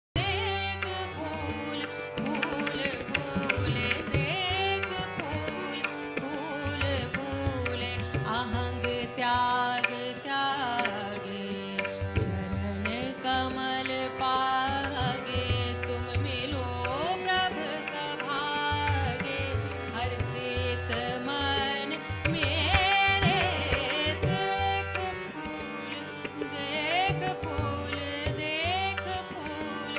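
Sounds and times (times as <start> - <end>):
tabla: 0.2 - 29.9.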